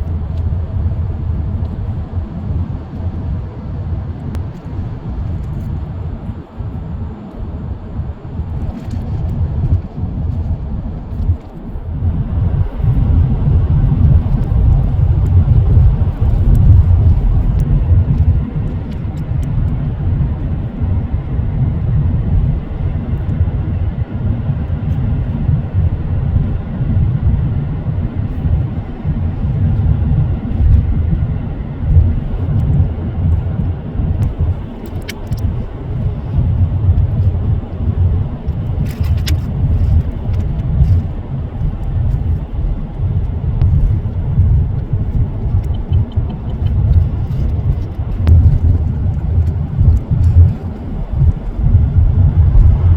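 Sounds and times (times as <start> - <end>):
car engine and road rumble: 0.0 - 52.9.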